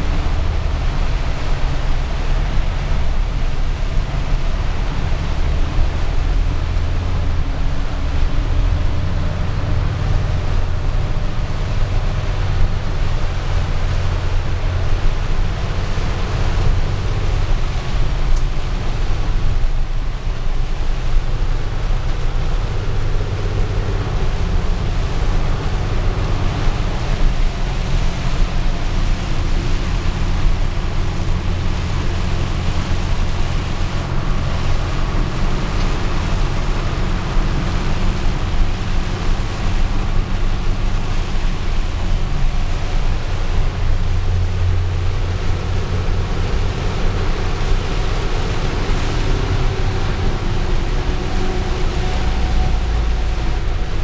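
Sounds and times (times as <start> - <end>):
engine and tyre hum: 0.0 - 54.0
rain and road spray hissing: 0.0 - 54.0.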